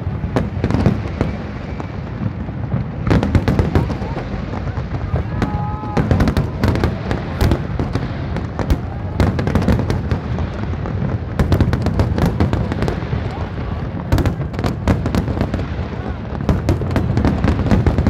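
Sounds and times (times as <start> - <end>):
firework bangs and cracks: 0.0 - 18.0.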